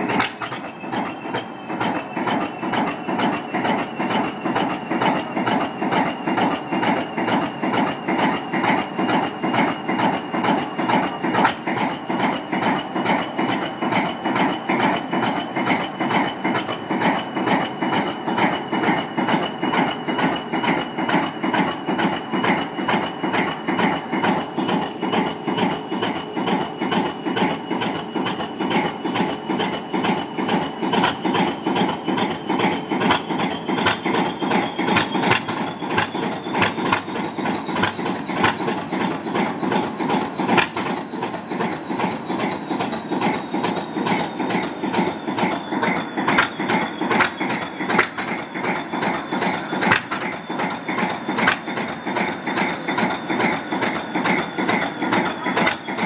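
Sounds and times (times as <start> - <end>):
locomotive diesel engine idling: 0.0 - 56.0
turbocharger whistle: 0.0 - 56.0.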